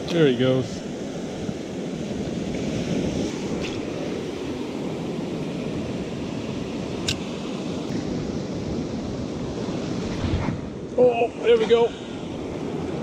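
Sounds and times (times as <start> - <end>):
ocean surf washing: 0.0 - 13.0
wind on microphone: 0.6 - 13.0.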